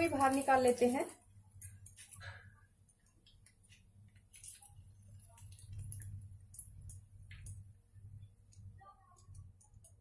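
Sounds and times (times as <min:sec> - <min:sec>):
ghee crackling in frying pan: 0:00.0 - 0:10.0.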